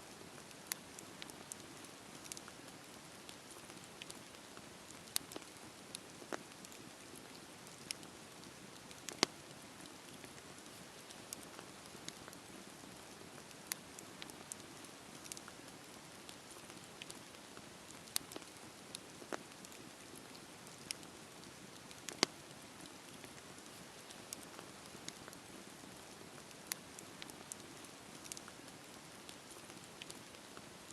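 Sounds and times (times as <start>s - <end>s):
campfire crackling: 0.1s - 30.9s
fire pops and snaps: 0.4s - 12.8s, 13.4s - 25.8s, 26.4s - 30.4s.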